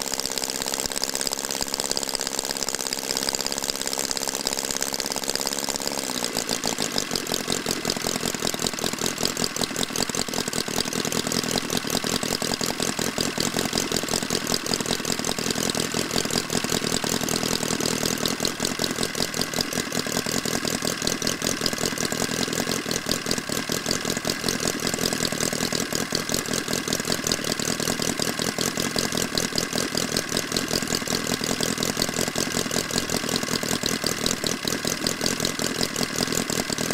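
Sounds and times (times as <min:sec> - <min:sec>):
model engine running: 0:00.0 - 0:36.9.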